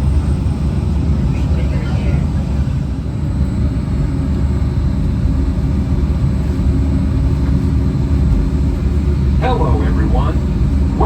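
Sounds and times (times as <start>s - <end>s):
monorail cabin rumble: 0.0s - 11.0s.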